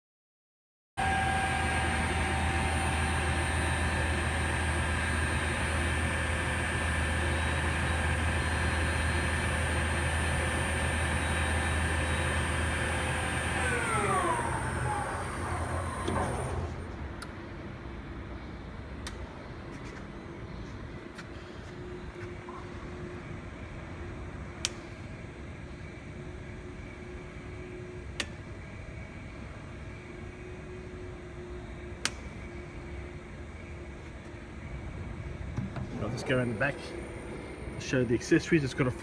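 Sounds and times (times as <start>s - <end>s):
lathe humming and whining: 1.0s - 17.2s, 20.4s - 39.0s.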